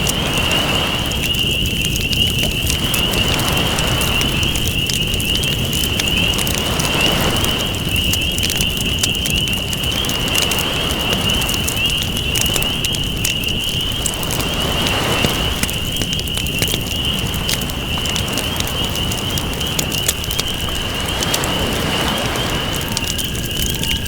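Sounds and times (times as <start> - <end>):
waves washing in: 0.0 - 9.1, 9.8 - 24.0
campfire crackling and popping: 0.0 - 24.0.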